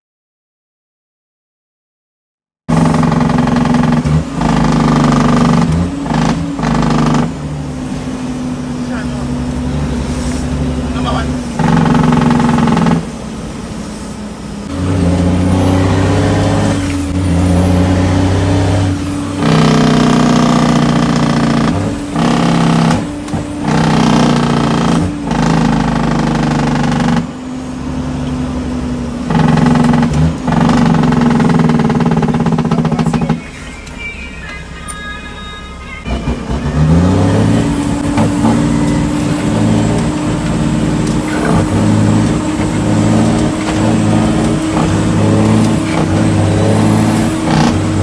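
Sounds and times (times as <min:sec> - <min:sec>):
truck diesel engine pulling: 0:02.7 - 0:48.0.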